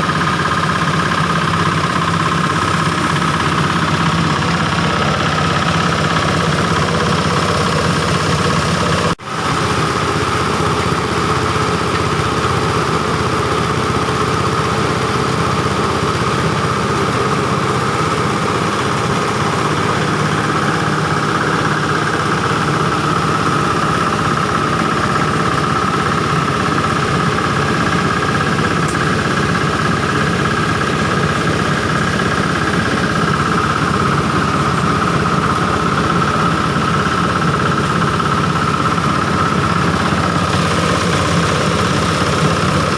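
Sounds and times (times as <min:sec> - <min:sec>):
chopper machine engine drone: 0:00.0 - 0:42.9.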